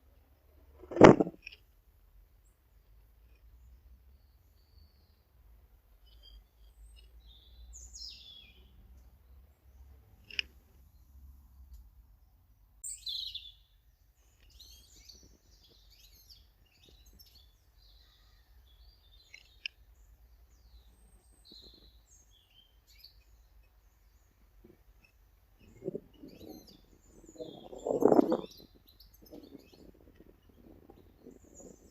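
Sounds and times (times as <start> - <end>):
small birds chirping: 2.2 - 31.9.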